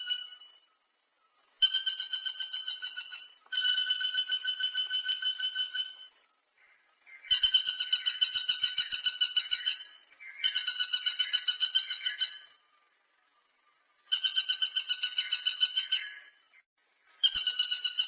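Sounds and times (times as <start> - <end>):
woodpecker rattling calls: 0.0 - 12.6, 14.0 - 16.6, 17.2 - 18.0.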